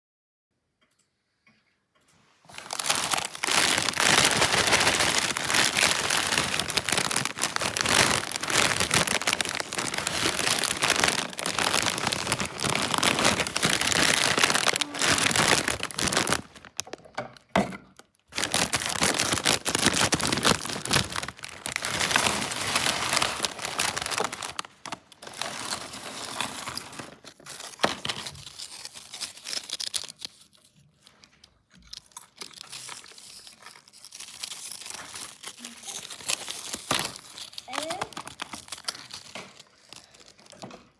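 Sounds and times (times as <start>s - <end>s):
plastic bag crinkling: 2.5s - 17.5s, 18.2s - 40.9s.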